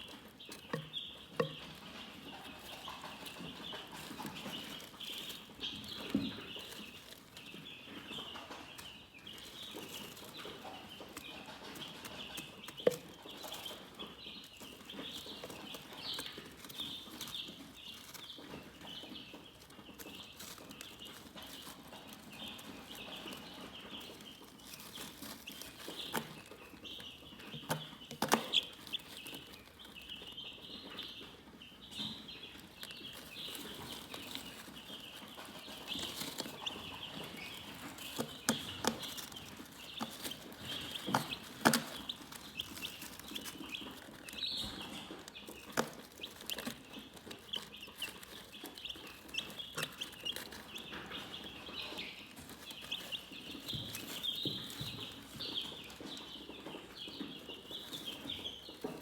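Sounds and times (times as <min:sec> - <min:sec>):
chickens chirping: 0:00.0 - 0:59.0.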